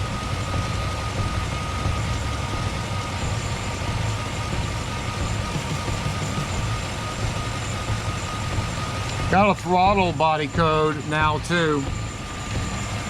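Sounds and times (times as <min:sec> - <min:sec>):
car engine idling: 0:00.0 - 0:13.0
thin high whine: 0:00.0 - 0:13.0.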